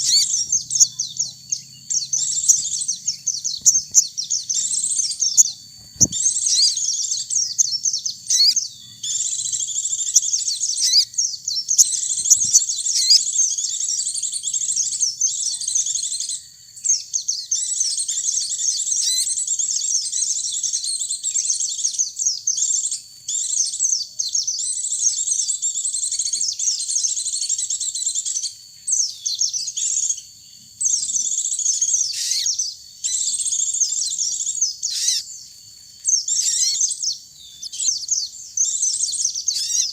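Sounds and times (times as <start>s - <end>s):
twittering birdsong: 0.0s - 39.9s.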